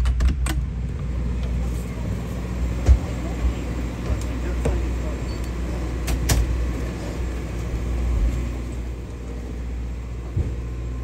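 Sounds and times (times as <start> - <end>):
boat engine humming: 0.7 - 11.0.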